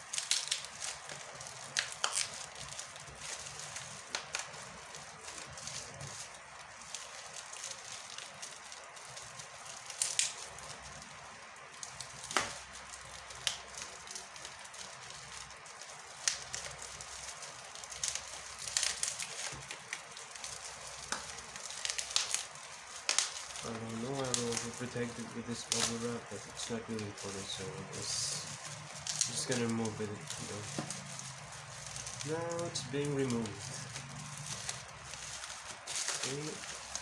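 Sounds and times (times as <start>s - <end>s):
bubble wrap crinkling: 0.0s - 37.0s
sharp bubble wrap snaps: 0.0s - 37.0s.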